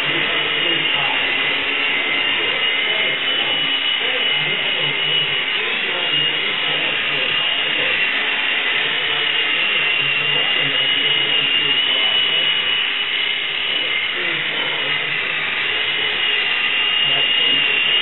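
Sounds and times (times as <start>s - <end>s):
motor whining: 0.0s - 18.0s.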